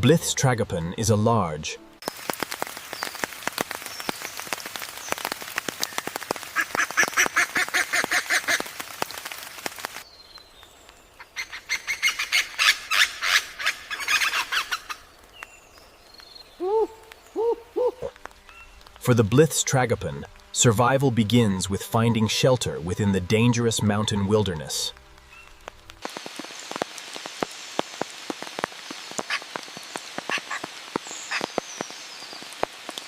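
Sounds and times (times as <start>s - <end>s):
rain patter: 2.0s - 22.2s, 22.8s - 33.0s.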